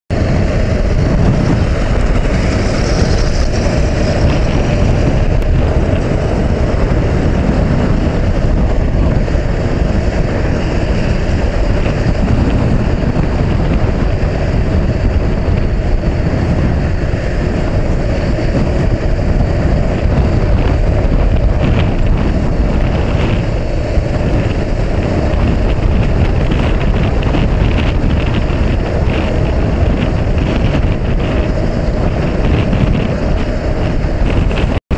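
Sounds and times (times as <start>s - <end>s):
motorcycle engine running: 0.1s - 34.9s
wind buffeting microphone: 0.1s - 34.9s.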